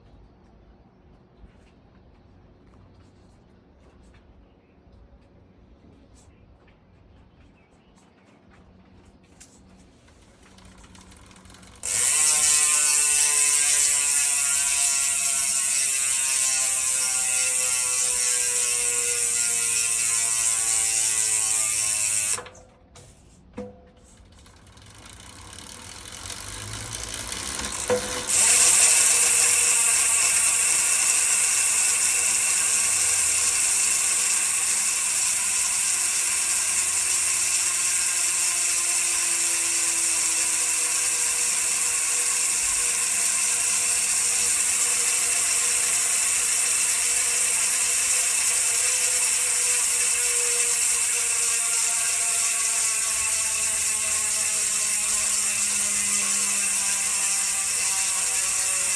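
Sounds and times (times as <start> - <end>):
bicycle freehub buzzing: 9.9 - 23.1, 24.0 - 58.9.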